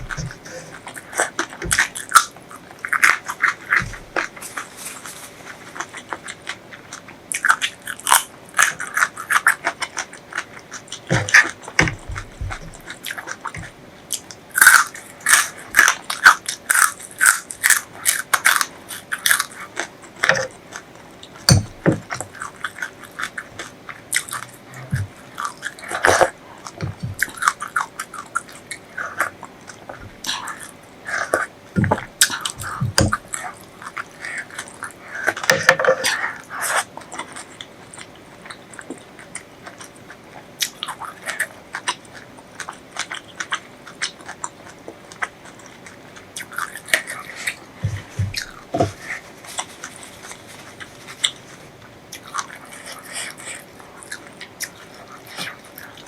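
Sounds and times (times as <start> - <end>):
close-miked crunching and chewing: 0.0 - 56.0.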